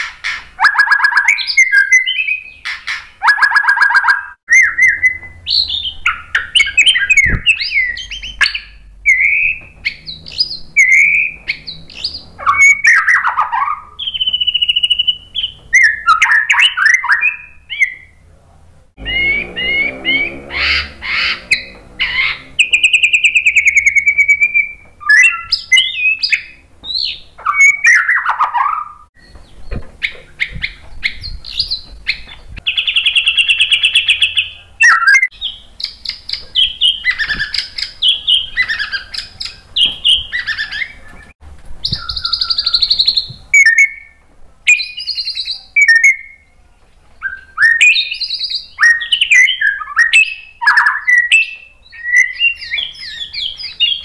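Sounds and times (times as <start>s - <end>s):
bird singing whistles and trills: 0.6s - 18.2s, 19.0s - 46.5s, 47.2s - 54.0s.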